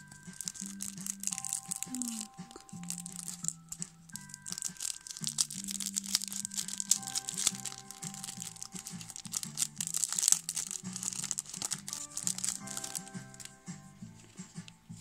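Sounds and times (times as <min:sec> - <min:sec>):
cellophane wrapper crinkling and tearing: 0:00.0 - 0:13.6
background music: 0:00.0 - 0:15.0.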